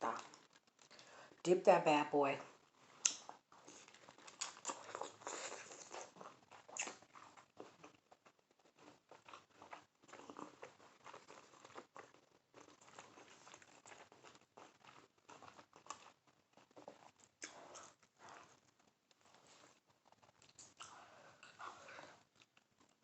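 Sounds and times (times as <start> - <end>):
wet chewing mouth clicks: 2.8 - 23.0.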